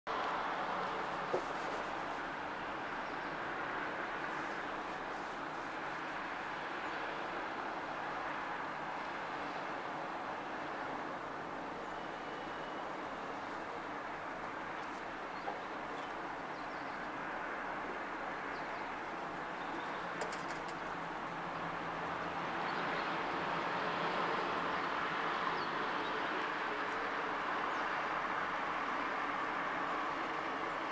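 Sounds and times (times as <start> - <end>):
distant city traffic: 0.1 - 30.9.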